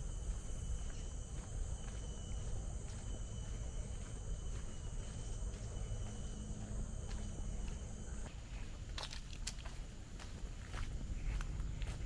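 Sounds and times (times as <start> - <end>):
footsteps on a path: 0.0 - 12.0
insects droning: 0.0 - 12.0.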